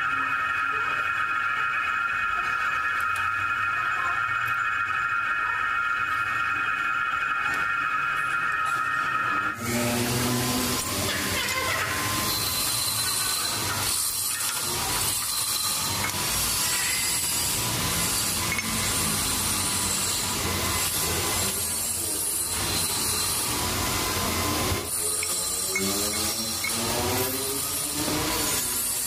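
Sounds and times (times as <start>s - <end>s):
metal lathe cutting: 0.0s - 29.0s.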